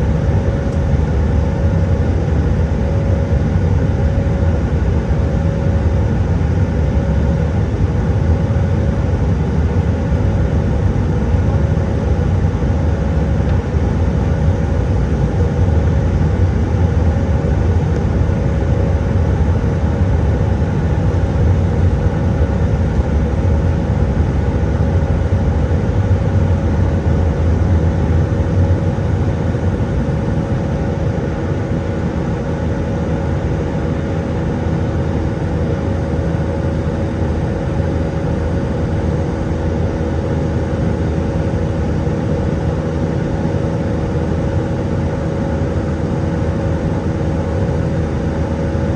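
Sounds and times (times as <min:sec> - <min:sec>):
airplane cabin drone: 0:00.0 - 0:48.9.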